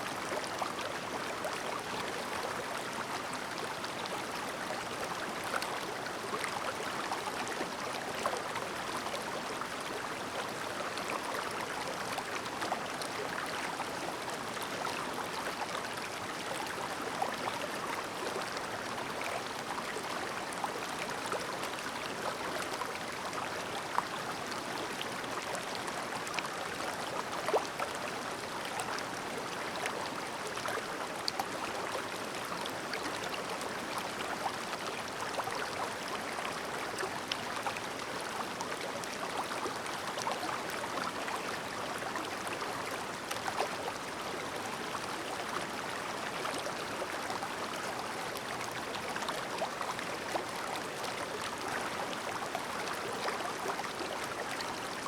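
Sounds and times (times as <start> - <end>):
stream babbling: 0.1 - 55.0.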